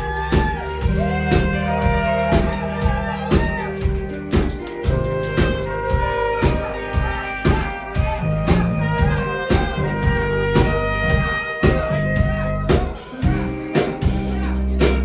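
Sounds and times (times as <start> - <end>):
drum-kit beat: 0.0 - 15.0
heavy bass line: 0.0 - 15.0
pop-rock band playing: 0.0 - 15.0.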